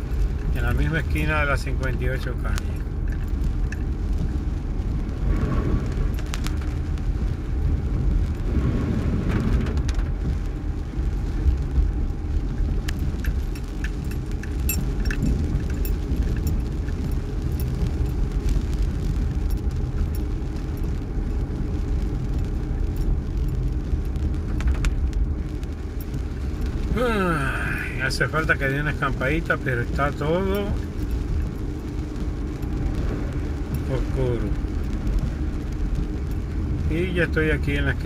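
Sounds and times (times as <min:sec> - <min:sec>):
car and tyres rumbling on wet road: 0:00.0 - 0:38.0
rain ticking on windshield: 0:00.0 - 0:38.0.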